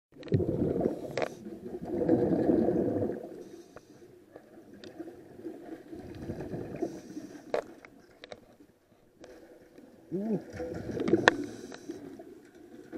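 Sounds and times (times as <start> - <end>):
underwater bubbles gurgling: 0.1 - 8.6, 9.2 - 12.9.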